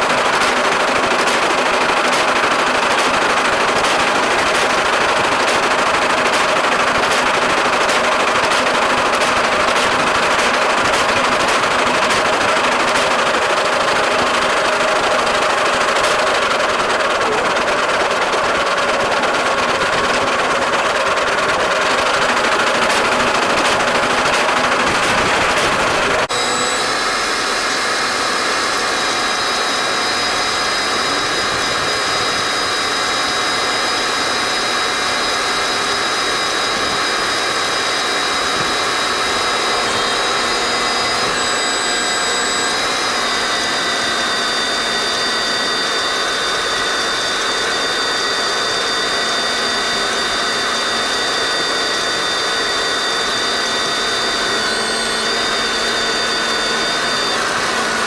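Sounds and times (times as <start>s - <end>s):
tractor engine under load: 0.0s - 26.9s, 29.5s - 58.0s
high-pitched whines: 2.7s - 58.0s.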